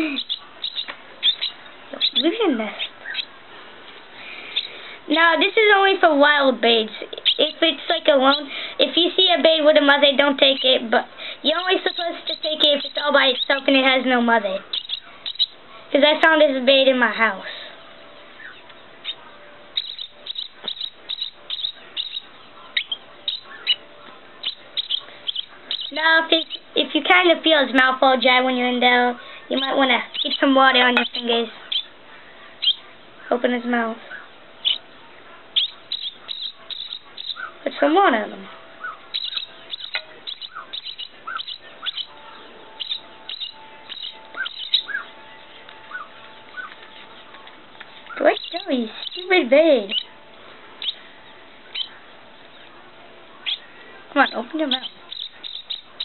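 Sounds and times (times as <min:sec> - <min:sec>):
baby bird cheeping: 0:00.0 - 0:03.4, 0:06.7 - 0:16.9, 0:18.3 - 0:33.4, 0:34.0 - 0:34.9, 0:35.5 - 0:37.9, 0:38.8 - 0:50.2, 0:50.8 - 0:52.7, 0:53.4 - 0:56.0.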